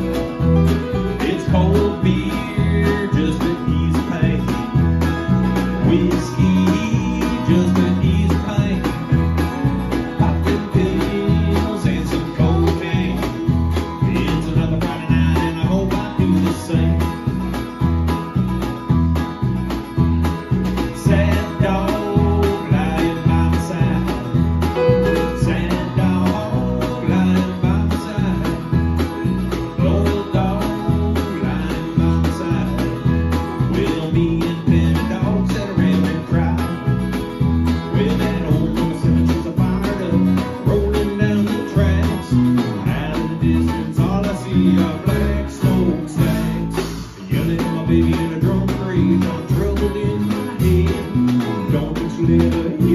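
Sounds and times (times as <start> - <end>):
drum kit beat: 0.0 - 52.9
electric bass: 0.0 - 52.9
keyboard: 0.0 - 52.9
live country band playing: 0.0 - 52.9
strummed acoustic guitar: 0.0 - 52.9.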